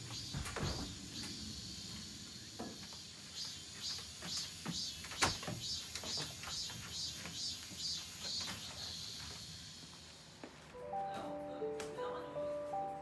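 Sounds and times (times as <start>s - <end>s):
insects chirping: 0.0s - 11.0s
footsteps on wooden deck: 0.0s - 12.0s.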